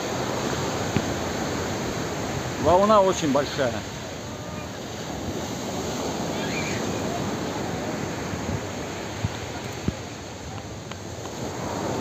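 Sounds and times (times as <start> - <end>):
waves breaking on pebbles: 0.0 - 4.0, 4.8 - 12.0.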